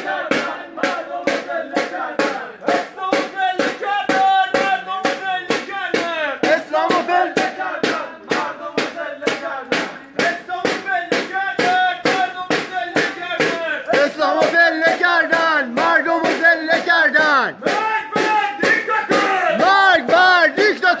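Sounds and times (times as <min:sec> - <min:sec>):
crowd chanting: 0:00.0 - 0:21.0
sharp rhythmic claps or drum beats: 0:00.0 - 0:21.0.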